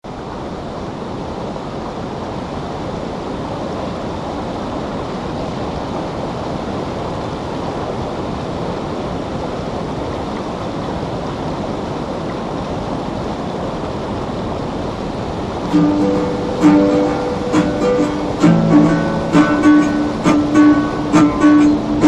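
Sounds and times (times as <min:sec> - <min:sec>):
river water rushing over riffle: 0:00.1 - 0:22.0.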